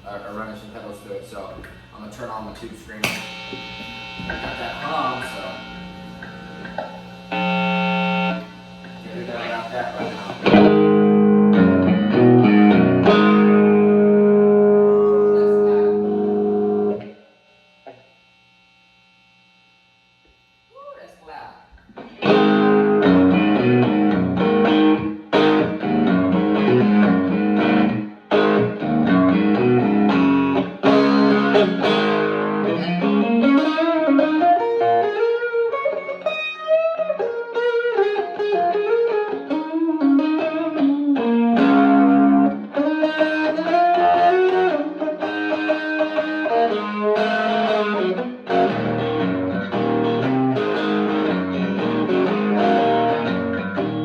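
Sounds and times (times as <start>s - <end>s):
overdriven electric guitar: 3.0s - 20.5s, 21.7s - 54.0s.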